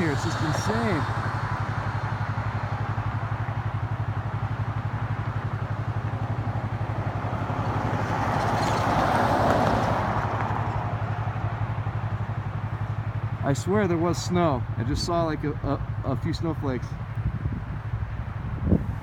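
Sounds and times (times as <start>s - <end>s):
engine idling: 0.0s - 8.5s, 10.0s - 19.0s
car passing: 0.0s - 19.0s.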